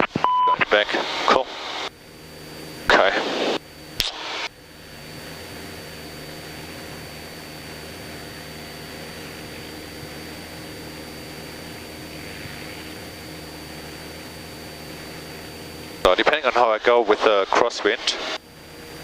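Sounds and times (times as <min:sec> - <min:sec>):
airplane engine droning: 0:00.0 - 0:19.0
high-pitched whine: 0:00.0 - 0:19.0.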